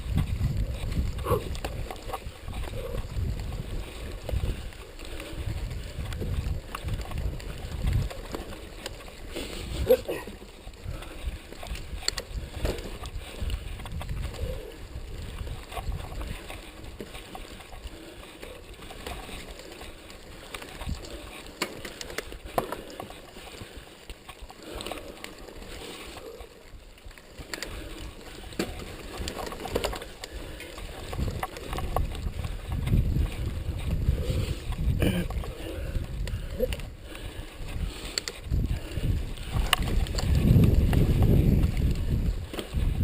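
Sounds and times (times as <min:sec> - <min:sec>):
wind rumble on microphone: 0:00.0 - 0:23.8, 0:24.6 - 0:43.0
bike frame rattling: 0:00.0 - 0:43.0
bike tyres on rough ground: 0:00.0 - 0:43.0.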